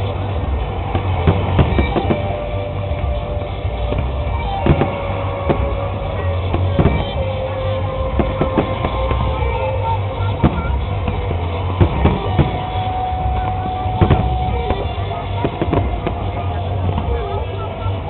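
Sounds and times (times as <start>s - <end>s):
firework bangs: 0.0s - 18.0s.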